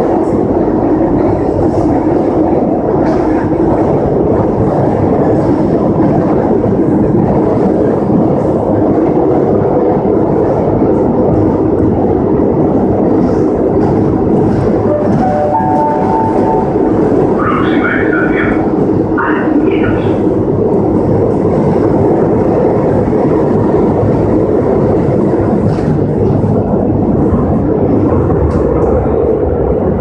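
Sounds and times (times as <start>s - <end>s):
train wheels rumbling in tunnel: 0.0s - 30.0s.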